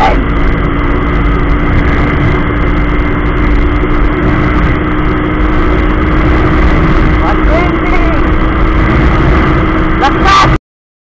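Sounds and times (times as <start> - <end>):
motorcycle engine at full throttle: 0.0 - 10.6
wind rush on microphone: 0.0 - 10.6.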